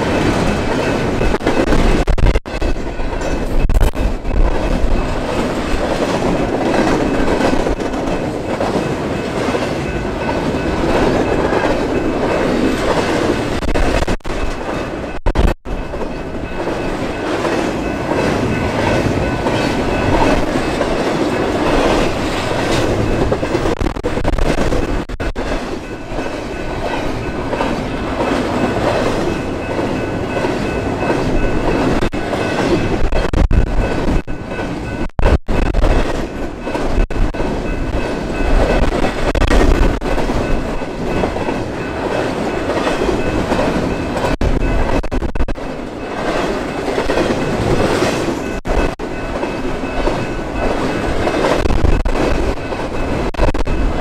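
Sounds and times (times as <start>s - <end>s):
train wheels on rails: 0.0s - 54.0s
wind buffeting microphone: 0.0s - 54.0s.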